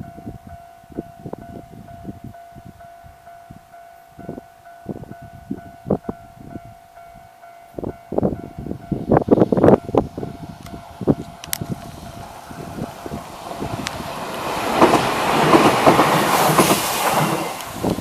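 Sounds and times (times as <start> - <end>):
level-crossing warning bell ringing: 0.0 - 16.0
wind buffeting microphone: 0.0 - 18.0.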